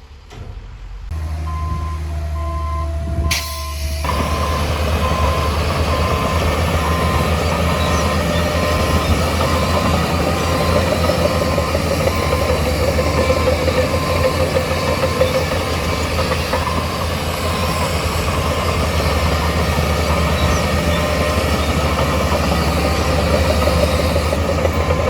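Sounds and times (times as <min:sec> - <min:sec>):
heavy diesel engine running: 0:00.9 - 0:25.0
reversing alarm beeping: 0:01.1 - 0:25.0.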